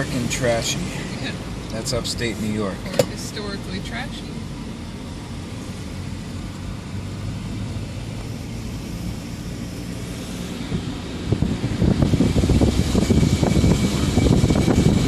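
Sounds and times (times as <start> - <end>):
car engine hum and road noise: 0.0 - 15.0.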